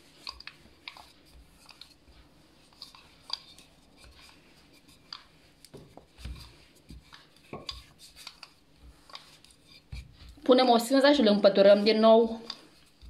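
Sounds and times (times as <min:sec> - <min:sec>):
soft thumps of rolling pin: 0:00.0 - 0:10.5.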